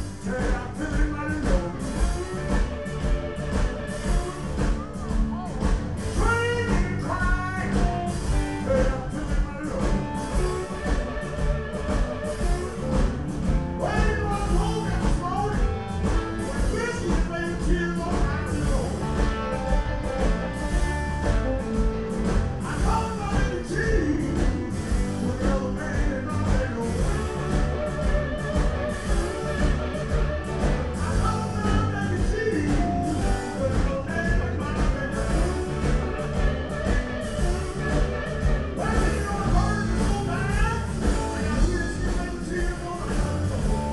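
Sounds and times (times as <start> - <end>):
bass guitar: 0.0 - 43.9
guitar lines with bent notes: 0.0 - 43.9
steady drum beat: 0.0 - 43.9.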